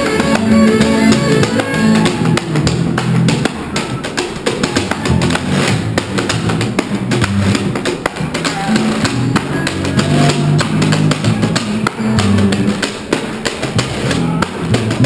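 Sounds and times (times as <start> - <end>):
plucked banjo: 0.0 - 15.0
upright bass: 0.0 - 15.0
washboard scraped and tapped: 0.0 - 15.0.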